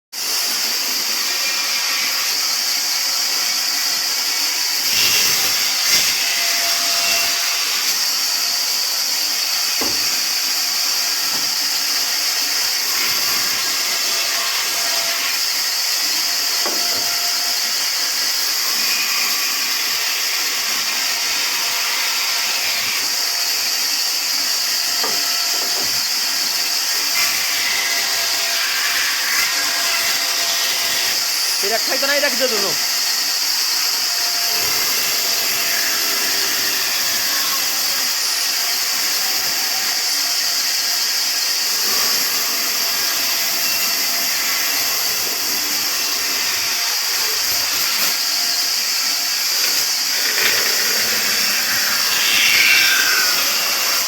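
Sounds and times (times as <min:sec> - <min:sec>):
sawmill saw cutting wood: 0:00.2 - 0:54.0.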